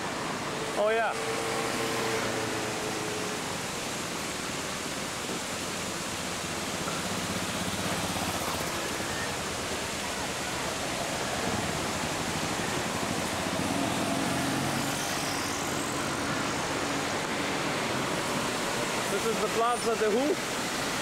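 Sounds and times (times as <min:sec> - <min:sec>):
city traffic hum: 0:00.0 - 0:21.0
fountain water falling: 0:00.0 - 0:21.0.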